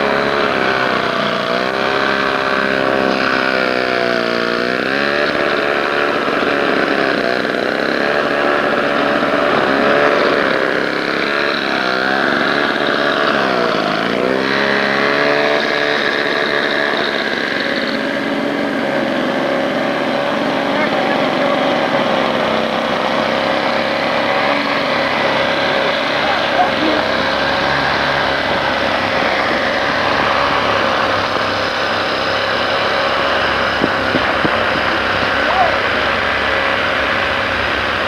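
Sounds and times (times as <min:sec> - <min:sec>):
snowblower engine running: 0:00.0 - 0:38.0.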